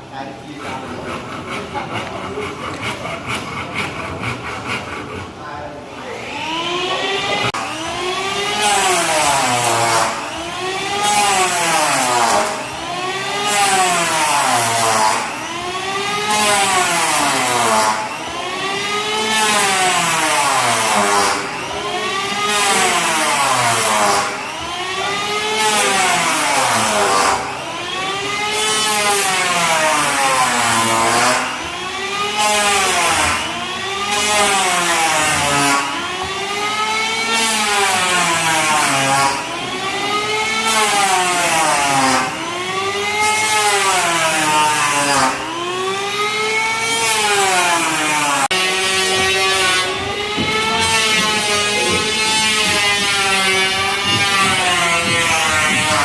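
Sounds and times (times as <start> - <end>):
power tool motor running: 6.1 - 56.0.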